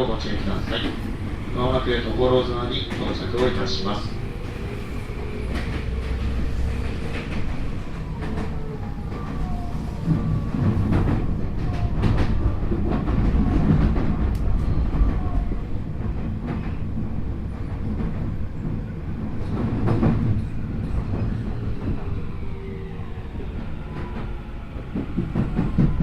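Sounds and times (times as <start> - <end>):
train wheel and track rumble: 0.0 - 26.0
clacks over rail joints: 0.1 - 22.0, 23.9 - 26.0.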